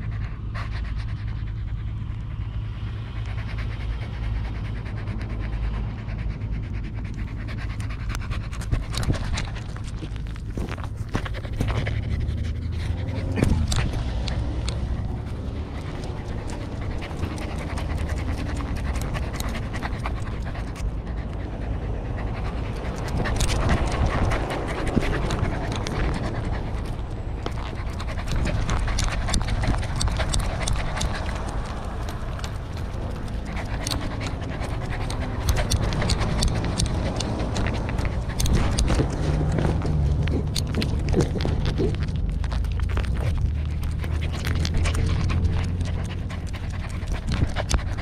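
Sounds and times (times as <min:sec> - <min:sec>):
dog panting: 0:00.0 - 0:48.0
low rumble: 0:00.0 - 0:48.0.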